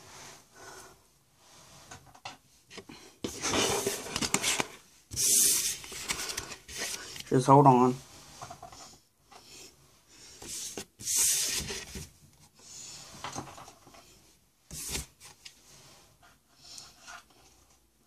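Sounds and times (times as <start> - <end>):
objects rubbing and rustling on desk: 1.4 - 17.9.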